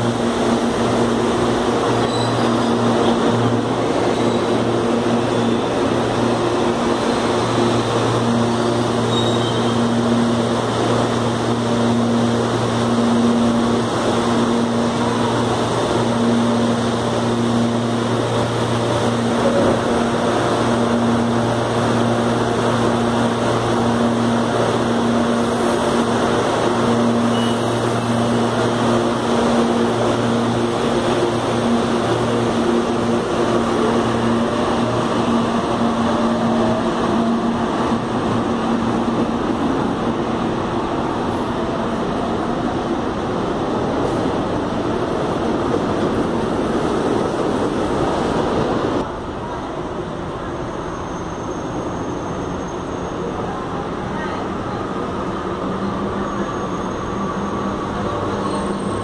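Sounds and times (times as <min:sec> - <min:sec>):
electric train hum: 0:00.0 - 0:59.0
rising electric whine of train: 0:00.0 - 0:59.0
rumble of train wheels: 0:00.0 - 0:59.0.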